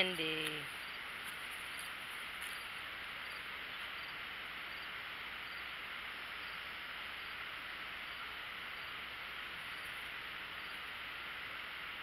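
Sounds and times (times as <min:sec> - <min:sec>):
faint insect chirps: 0:00.0 - 0:12.0
insect chorus chirring: 0:00.0 - 0:12.0.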